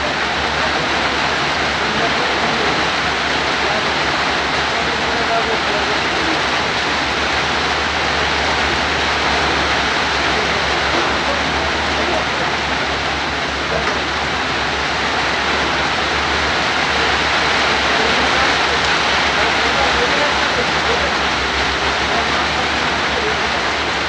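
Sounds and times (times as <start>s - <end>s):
torrential rain hissing: 0.0s - 24.0s.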